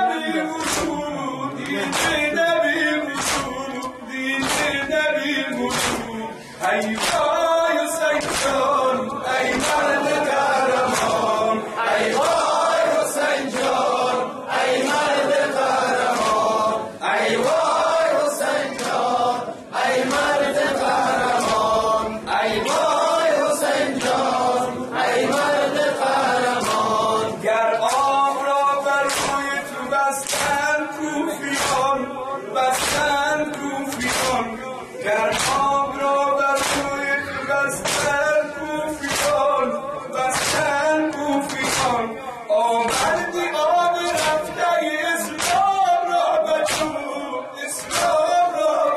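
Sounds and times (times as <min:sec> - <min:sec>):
man singing a lament: 0:00.0 - 0:18.8, 0:24.4 - 0:48.9
men singing in chorus: 0:00.0 - 0:48.9
rhythmic chest slapping: 0:00.0 - 0:48.9.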